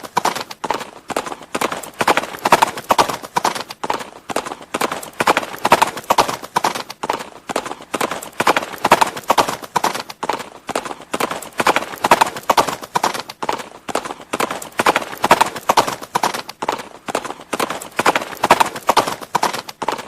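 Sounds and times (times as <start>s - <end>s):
horse hooves clip-clopping: 0.0s - 20.0s.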